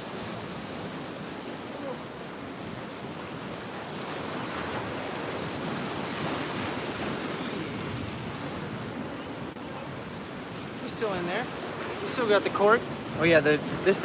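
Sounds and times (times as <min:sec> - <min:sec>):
ocean surf washing ashore: 0:00.0 - 0:14.0
wind: 0:00.0 - 0:14.0.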